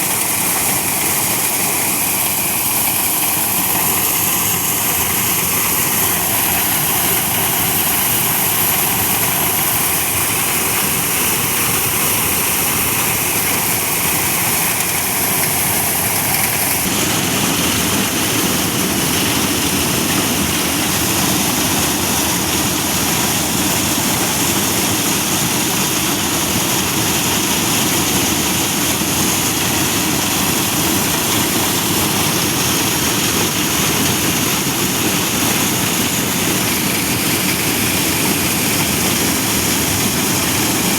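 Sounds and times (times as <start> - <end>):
corn sheller running: 0.0 - 40.9.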